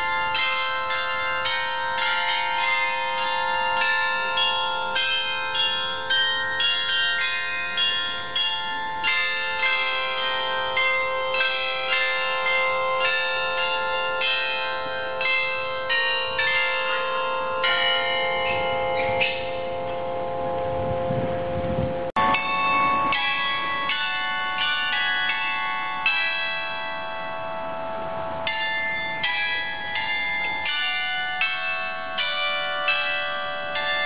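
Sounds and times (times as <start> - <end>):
carillon bells playing a tune: 0.0 - 34.0.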